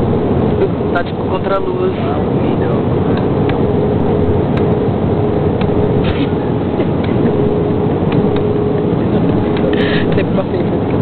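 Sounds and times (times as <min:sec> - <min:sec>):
engine and airflow drone: 0:00.0 - 0:11.0
thin steady whine: 0:00.0 - 0:11.0.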